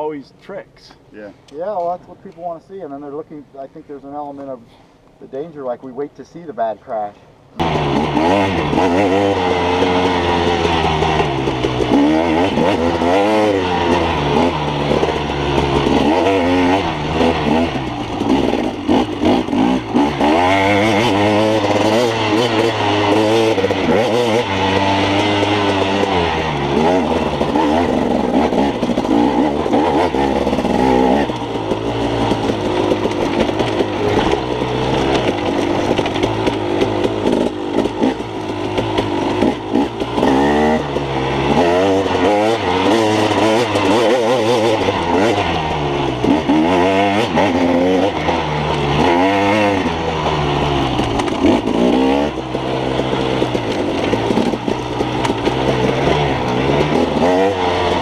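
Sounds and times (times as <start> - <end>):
motorcycle engine revving: 7.5 - 58.0.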